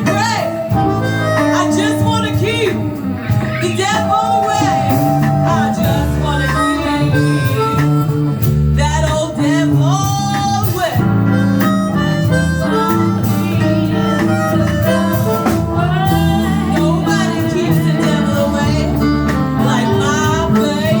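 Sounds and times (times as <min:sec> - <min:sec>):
live band music: 0:00.0 - 0:21.0
lead line bending between notes: 0:00.6 - 0:21.0.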